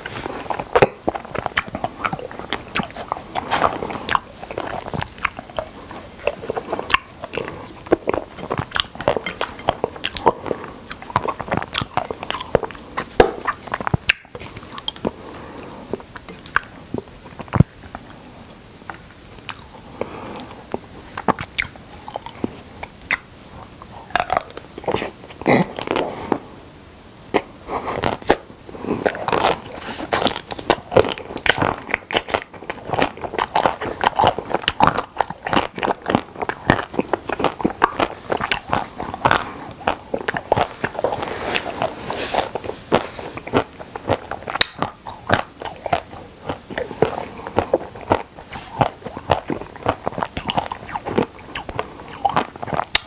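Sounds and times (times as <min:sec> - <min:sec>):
biting and chewing ice cream bar: 0:00.0 - 0:26.4, 0:27.3 - 0:53.0.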